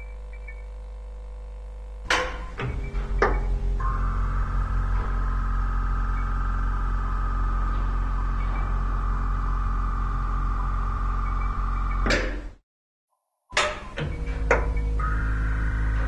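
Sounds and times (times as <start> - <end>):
continuous low hum: 0.0 - 12.6, 13.6 - 16.0
steady high drone: 0.8 - 12.1, 14.0 - 16.0.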